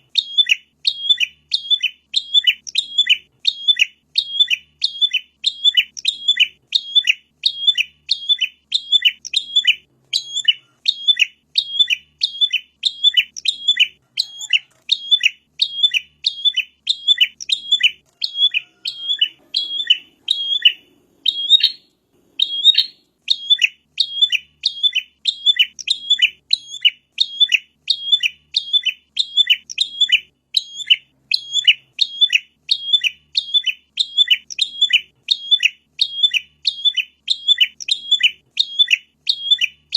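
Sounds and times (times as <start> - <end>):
bird chirping sharply: 0.0 - 39.9.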